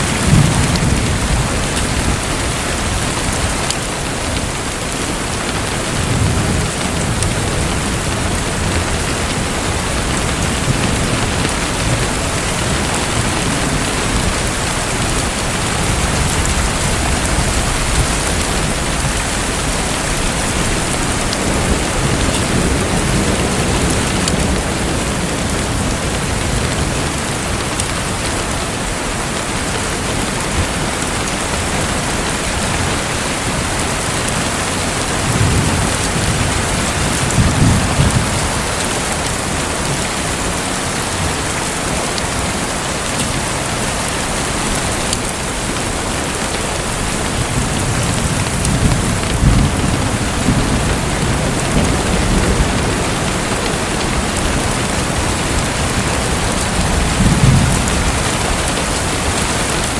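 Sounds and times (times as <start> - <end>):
dense water noise: 0.0 - 59.9.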